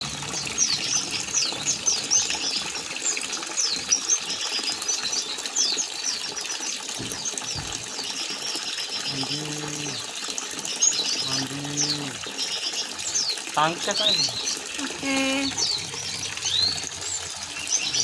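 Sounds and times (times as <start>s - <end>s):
water splashing: 0.0s - 18.0s
bird chirping and twittering: 0.1s - 18.0s.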